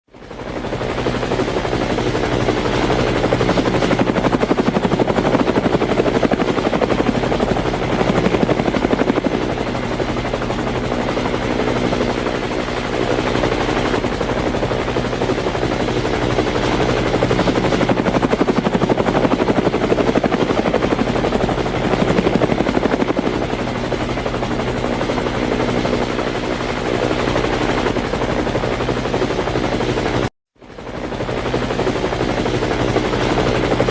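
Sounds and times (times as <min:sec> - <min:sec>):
helicopter rotor blades chopping: 0:00.2 - 0:33.9.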